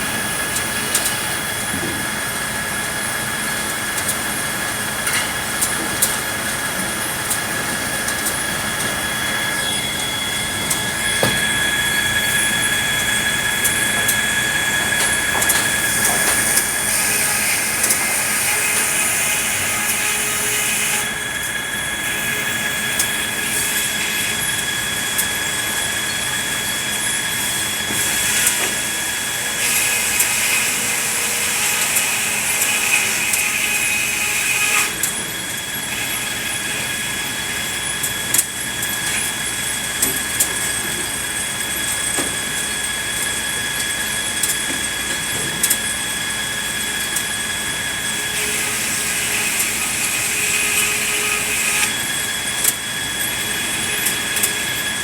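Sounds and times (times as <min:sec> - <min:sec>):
sawmill saw whining: 0:00.0 - 0:55.0.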